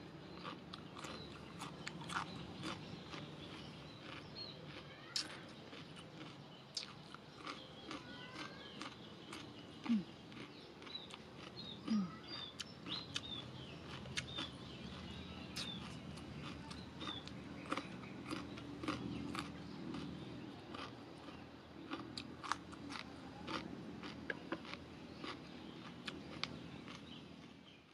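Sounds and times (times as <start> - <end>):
person chewing crunchy food: 0.0 - 27.9.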